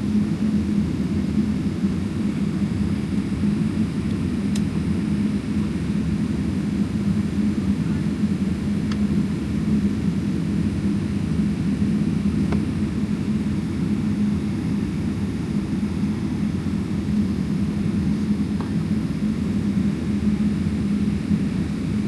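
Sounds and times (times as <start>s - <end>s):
aircraft cabin rumble: 0.2s - 22.0s.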